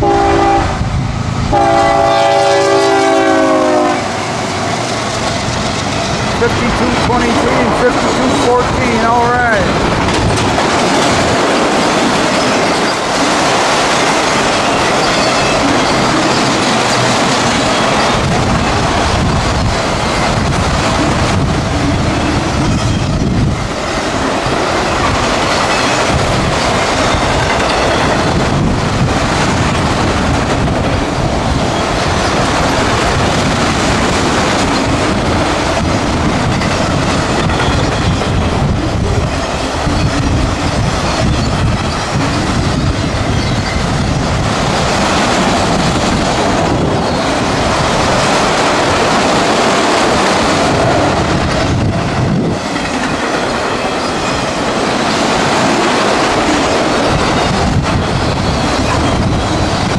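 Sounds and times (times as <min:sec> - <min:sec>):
rumble of steel wheels on rail: 0:00.0 - 0:59.9
wheels clicking over rail joints: 0:09.0 - 0:59.9.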